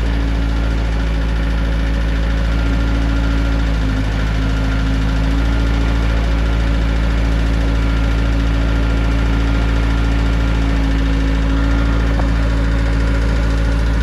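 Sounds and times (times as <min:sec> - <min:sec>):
skid steer engine running: 0:00.0 - 0:14.0.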